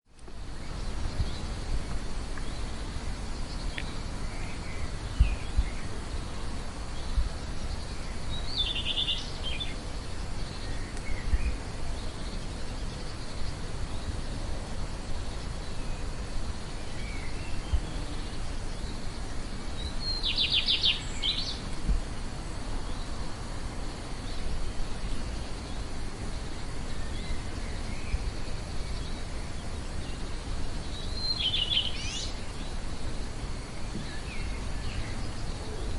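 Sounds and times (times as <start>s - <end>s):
insect drone: 0.1s - 35.9s
small birds chirping: 0.1s - 35.9s.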